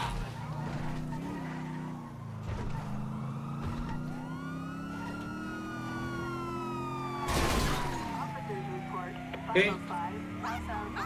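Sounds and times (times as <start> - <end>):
car engine hum: 0.0 - 11.0
police siren wailing: 0.0 - 11.0.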